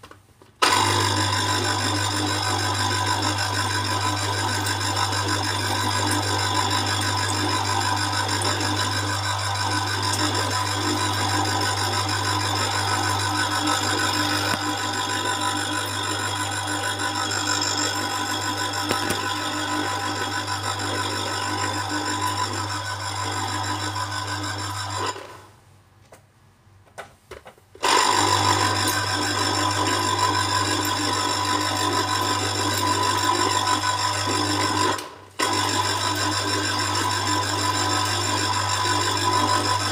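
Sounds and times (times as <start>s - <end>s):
juicer motor humming: 0.6s - 25.5s, 27.8s - 39.9s.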